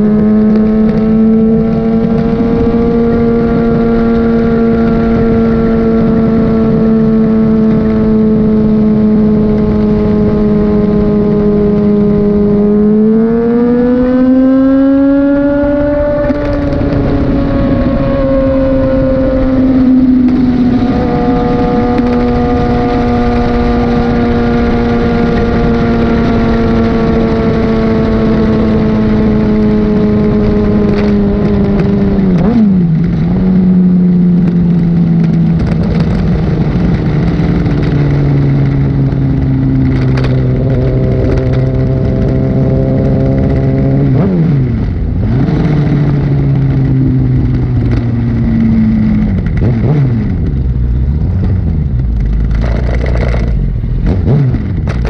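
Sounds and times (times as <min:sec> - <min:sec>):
gear changes: 0:00.0 - 0:55.0
motorcycle engine accelerating: 0:00.0 - 0:55.0
wind rushing: 0:00.0 - 0:55.0.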